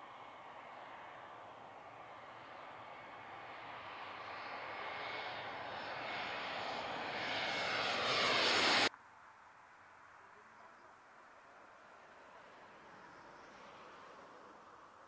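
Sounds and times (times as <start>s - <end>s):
jet engines passing overhead: 0.0s - 8.9s, 11.3s - 15.0s.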